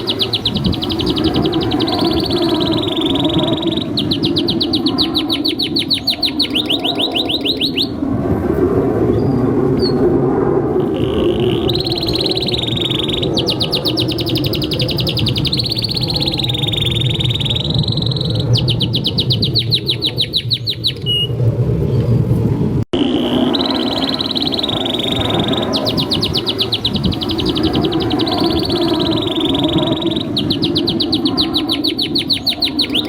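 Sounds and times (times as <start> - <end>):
canary singing with trills: 0.0 - 8.0, 10.8 - 21.4, 23.0 - 33.0.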